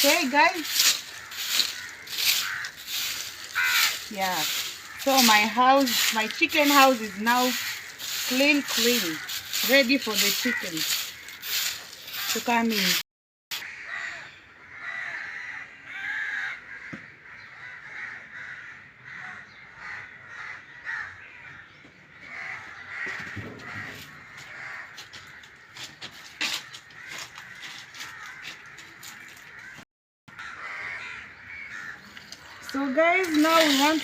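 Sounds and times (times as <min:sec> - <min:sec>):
birds calling: 0:00.0 - 0:13.0, 0:13.6 - 0:34.0.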